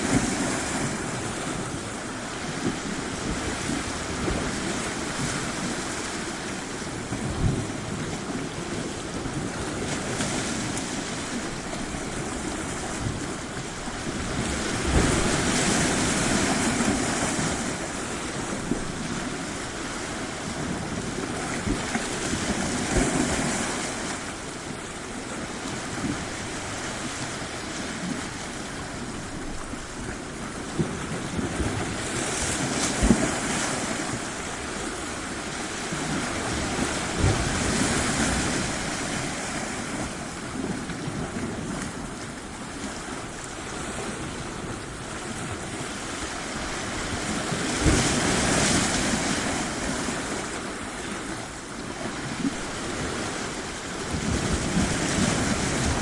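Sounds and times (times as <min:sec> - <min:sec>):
surf washing onto a beach: 0:00.0 - 0:56.0
waves surging and ebbing: 0:00.0 - 0:56.0.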